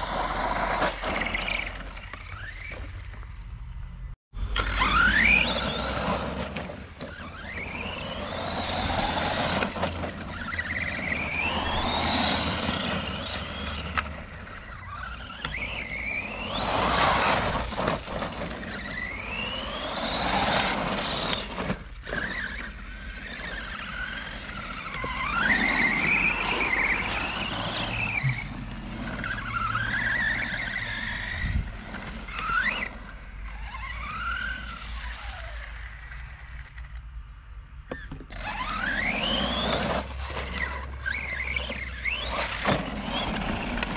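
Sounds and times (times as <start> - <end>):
rc truck motor whining: 0.0 - 43.9.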